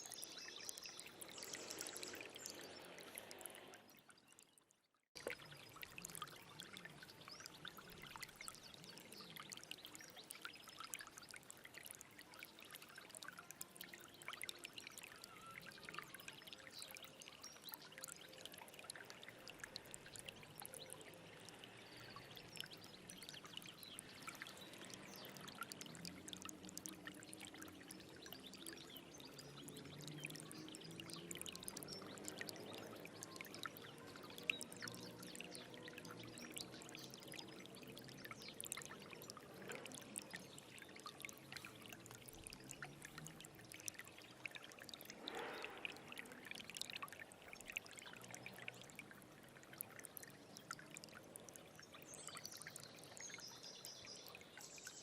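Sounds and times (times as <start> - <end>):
small water splashes: 0.0 - 55.0
stream water trickling: 0.0 - 55.0.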